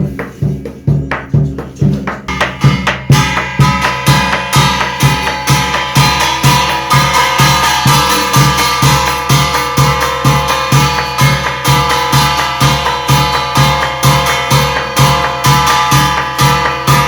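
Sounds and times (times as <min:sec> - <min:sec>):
drum struck in steady beat: 0:00.0 - 0:17.0.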